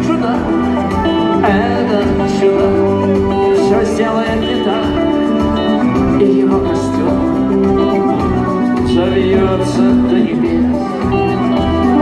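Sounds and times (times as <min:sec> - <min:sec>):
song with guitar accompaniment: 0:00.0 - 0:12.0.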